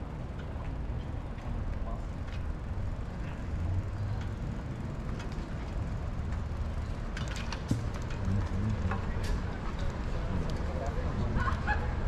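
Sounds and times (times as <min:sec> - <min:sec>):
wind and road noise: 0:00.0 - 0:12.0
light clicks and rattles: 0:00.3 - 0:11.7.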